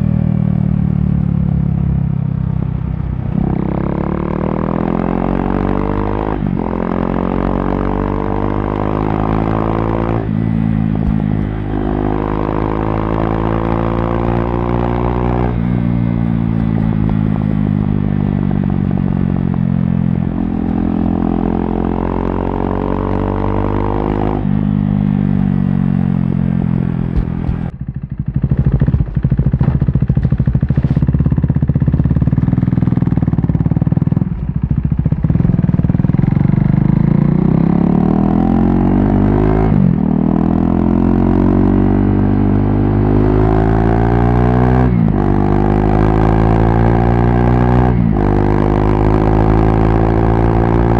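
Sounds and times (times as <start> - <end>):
motorcycle engine accelerating through gears: 0.0 - 50.9.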